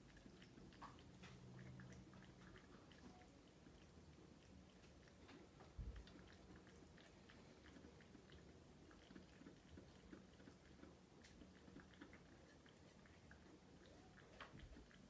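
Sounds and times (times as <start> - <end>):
cat chewing food: 0.0 - 15.0.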